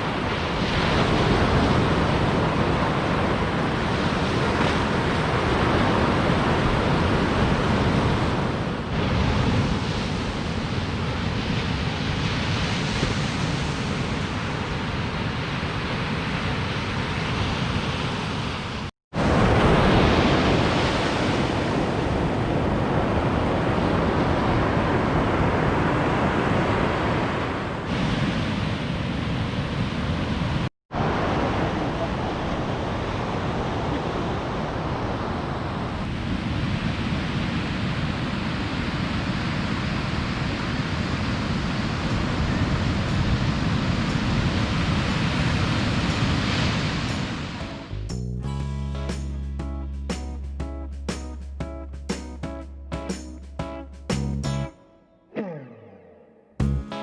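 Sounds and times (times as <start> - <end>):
wind on microphone: 0.0 - 48.0
ocean waves breaking: 0.0 - 48.1.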